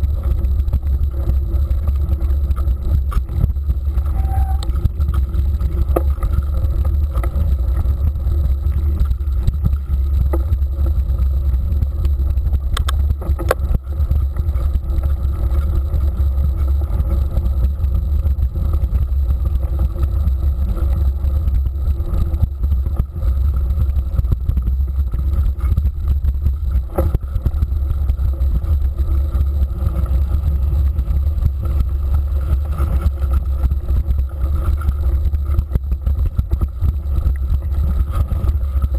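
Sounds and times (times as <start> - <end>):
low rumble of bike riding: 0.0 - 38.9.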